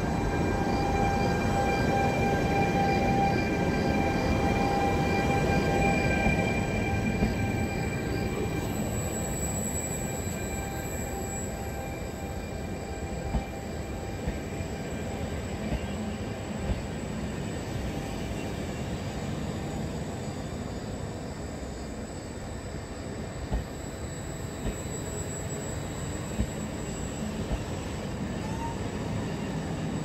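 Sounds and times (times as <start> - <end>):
train wheels rumbling: 0.0 - 20.2, 23.1 - 30.0.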